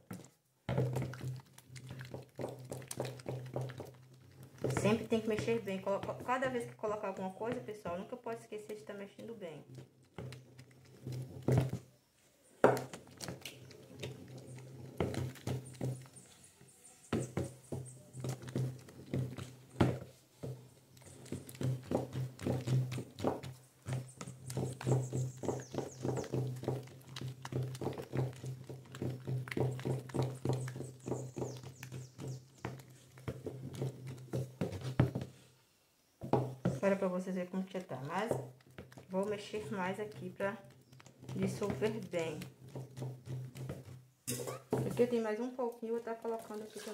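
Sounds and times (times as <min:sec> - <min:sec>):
wooden spoon knocking plastic bucket: 0:00.0 - 0:12.0, 0:12.6 - 0:16.4, 0:17.1 - 0:35.4, 0:36.2 - 0:37.1, 0:37.7 - 0:46.9.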